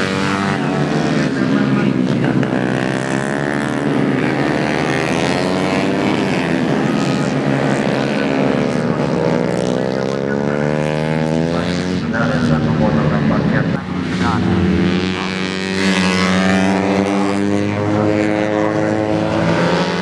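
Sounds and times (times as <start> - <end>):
motorcycles revving hard: 0.0 - 20.0.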